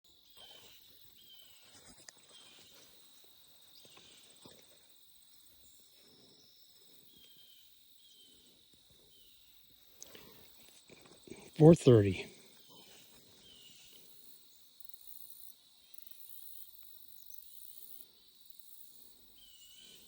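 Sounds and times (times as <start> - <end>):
crickets trilling: 0.1 - 20.0.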